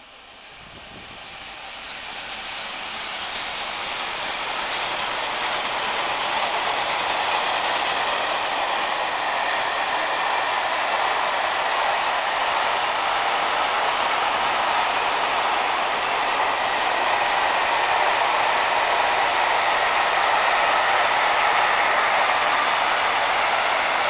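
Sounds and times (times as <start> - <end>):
freight train rolling on rails: 0.0 - 24.0.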